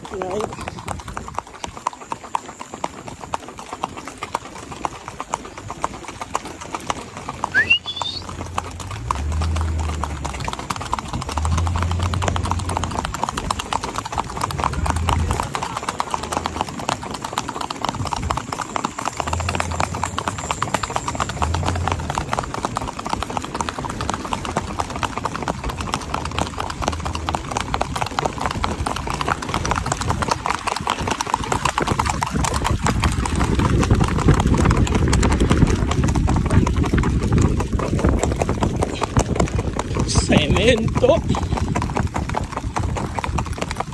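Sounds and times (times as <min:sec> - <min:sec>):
hooves clip-clopping on asphalt: 0:00.0 - 0:43.9.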